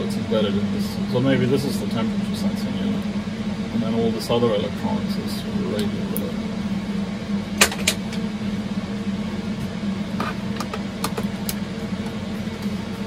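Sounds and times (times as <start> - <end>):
computer servers humming: 0.0 - 13.0.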